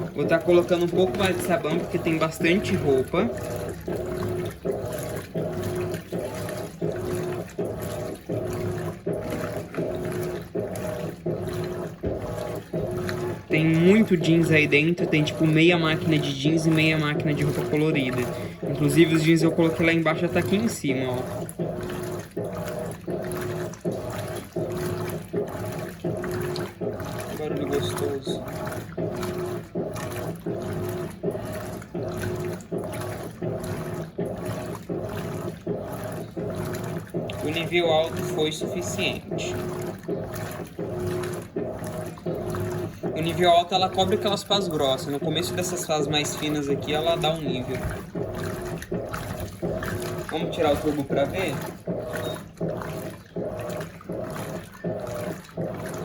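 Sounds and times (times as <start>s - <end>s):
washing machine motor humming: 0.0s - 56.0s
water sloshing in tub: 0.0s - 56.0s.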